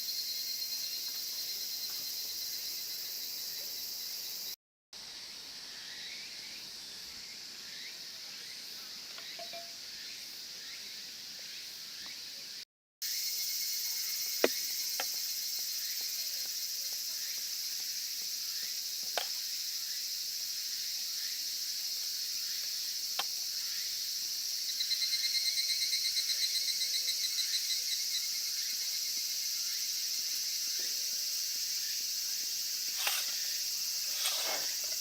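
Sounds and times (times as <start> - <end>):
insects chorus: 0.0 - 35.0
rapid pulsed insect trill: 0.0 - 35.0.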